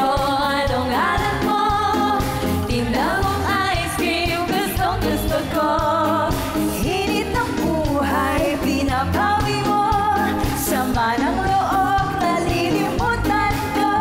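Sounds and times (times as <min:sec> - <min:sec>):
backing track with steady beat: 0:00.0 - 0:14.0
women singing pop song: 0:00.0 - 0:14.0.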